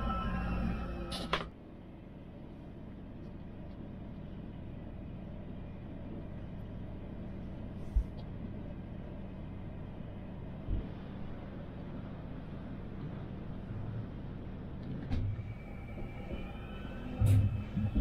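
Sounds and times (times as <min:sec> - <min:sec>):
train interior rumble: 0:00.0 - 0:18.0.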